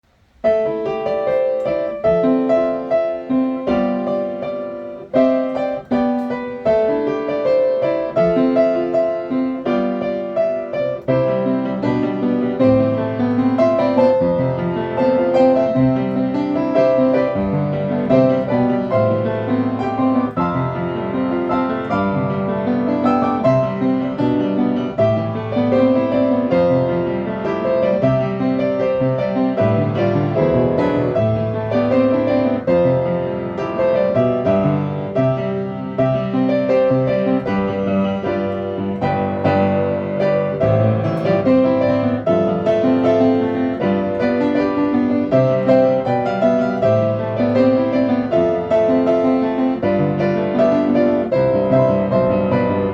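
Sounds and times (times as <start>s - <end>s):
piano music: 0.0s - 52.9s.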